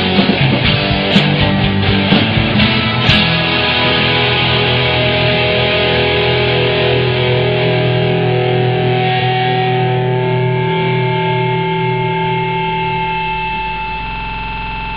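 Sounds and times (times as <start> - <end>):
sustained rock guitar chord: 0.0 - 14.9.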